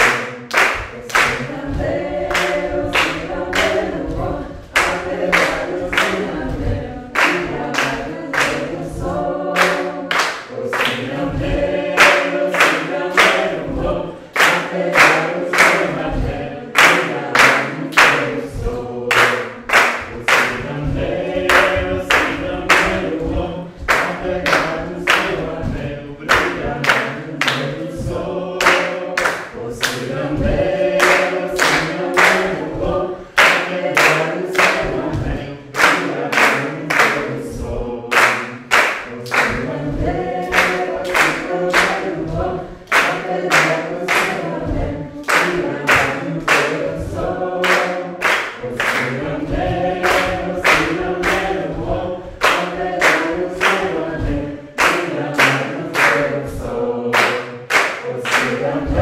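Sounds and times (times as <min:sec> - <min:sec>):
group singing unaccompanied: 0:00.0 - 0:59.0
hands clapping on a beat: 0:00.0 - 0:59.0.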